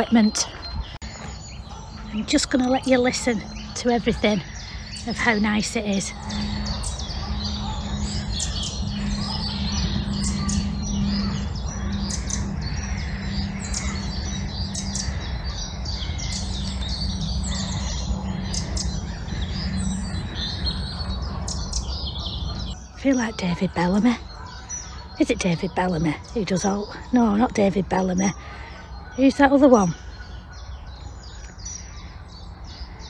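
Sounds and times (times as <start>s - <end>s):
small birds chirping: 0.0s - 33.0s
steady low hum: 0.0s - 33.0s.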